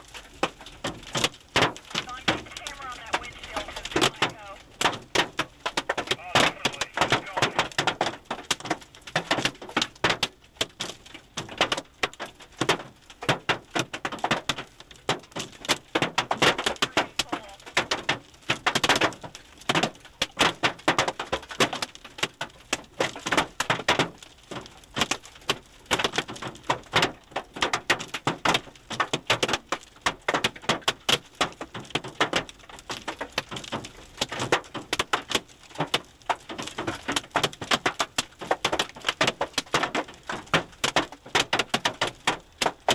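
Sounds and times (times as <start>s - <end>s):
hail clattering on car roof: 0.0s - 42.9s.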